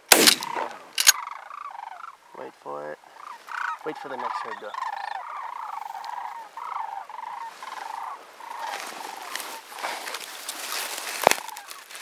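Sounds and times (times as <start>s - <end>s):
cranes calling: 0.1s - 12.0s
dry grass rustling on microphone: 0.1s - 12.0s.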